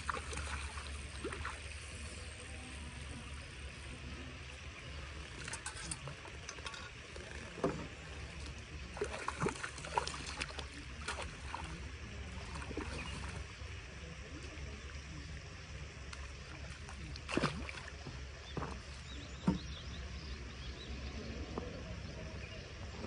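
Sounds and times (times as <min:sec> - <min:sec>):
fish splashing in water: 0:00.0 - 0:19.8
steady low hum: 0:00.0 - 0:23.0.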